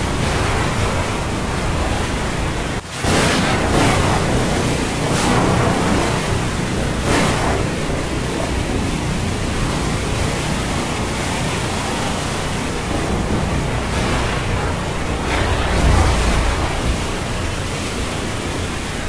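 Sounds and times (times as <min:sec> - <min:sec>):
heavy rain and surf: 0:00.0 - 0:19.0.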